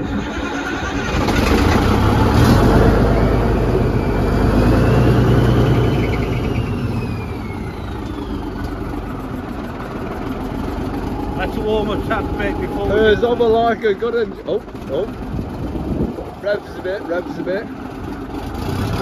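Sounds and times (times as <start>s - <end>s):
diesel engine running with whine: 0.0s - 19.0s.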